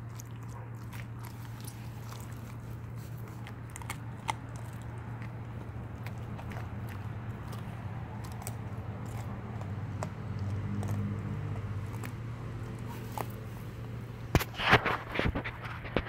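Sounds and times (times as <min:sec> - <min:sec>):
puppy crunching fish bones: 0:00.0 - 0:16.0
steady low hum: 0:00.0 - 0:16.0.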